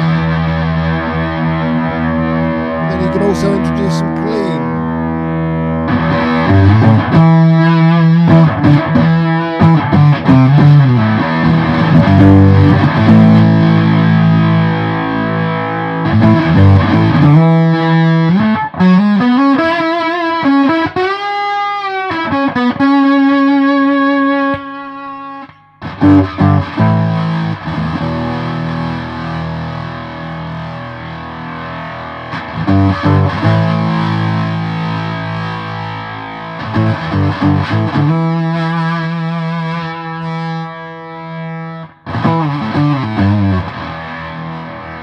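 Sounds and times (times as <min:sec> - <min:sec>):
fuzz electric bass riffs: 0:00.0 - 0:19.2, 0:25.9 - 0:40.7, 0:41.5 - 0:45.0.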